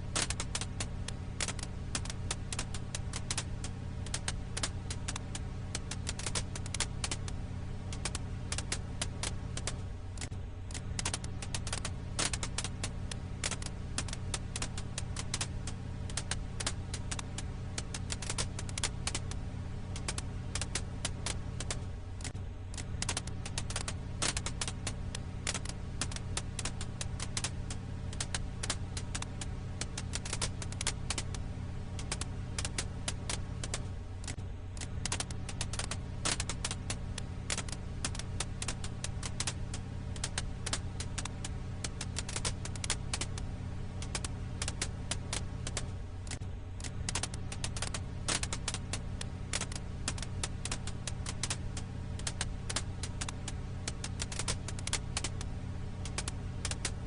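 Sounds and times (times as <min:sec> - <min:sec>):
firewood popping and crackling: 0:00.0 - 0:57.0.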